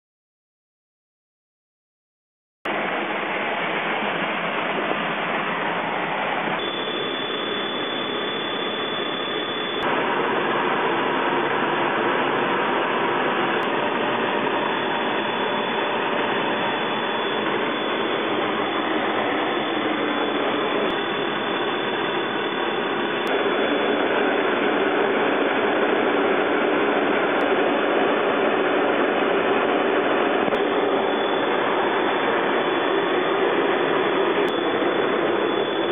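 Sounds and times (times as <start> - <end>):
faint high whine: 2.7 - 35.9
jet cockpit roar: 2.7 - 35.9.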